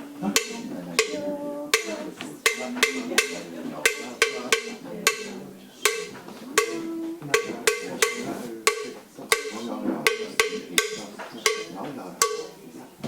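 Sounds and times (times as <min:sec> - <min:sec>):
sharp ringing knocks: 0:01.8 - 0:12.6.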